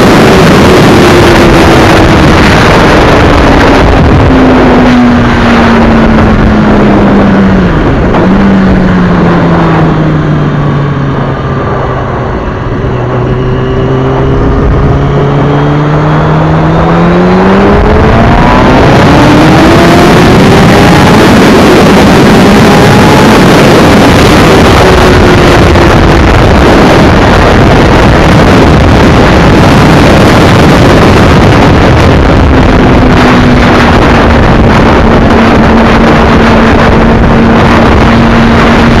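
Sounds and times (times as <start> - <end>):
motorcycle engine cruising: 0.0 - 39.0
wind rush on microphone: 0.0 - 39.0.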